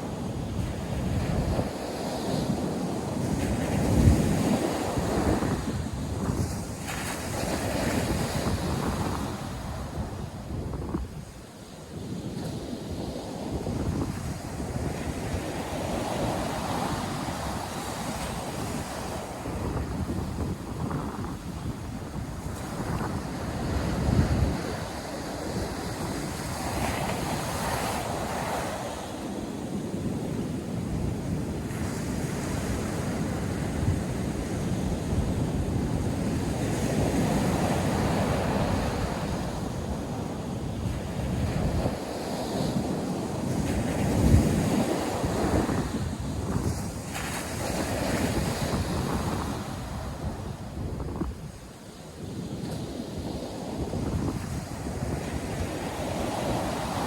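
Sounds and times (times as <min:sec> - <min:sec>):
surf washing onto beach: 0:00.0 - 0:57.0
wind buffeting microphone: 0:00.0 - 0:57.0.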